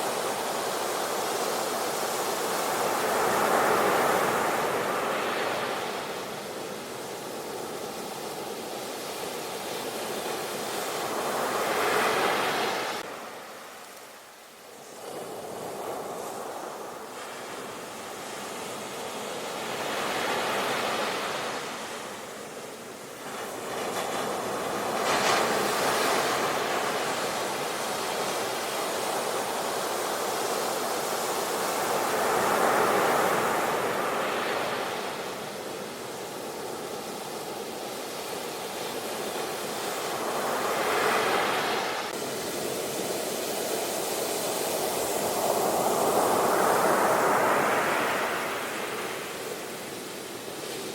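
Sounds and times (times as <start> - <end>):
ocean waves breaking on shore: 0.0 - 50.9.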